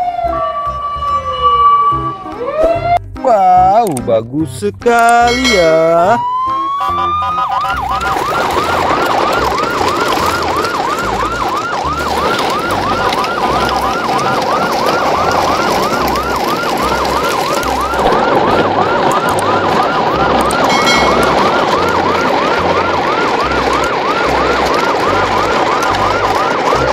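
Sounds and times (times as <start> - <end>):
electronic siren yelping: 0.0 - 3.0, 5.2 - 26.9.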